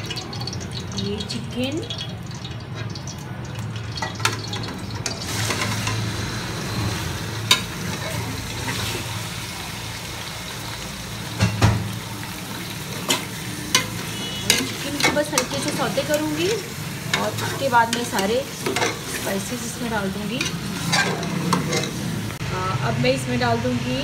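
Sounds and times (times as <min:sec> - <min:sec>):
chicken sizzling in hot oil: 0:00.0 - 0:22.4.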